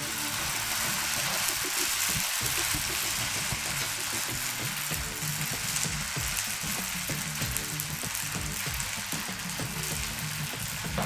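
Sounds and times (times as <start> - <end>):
batter sizzling in frying pan: 0.0 - 11.0
soft instrumental music: 0.0 - 11.0.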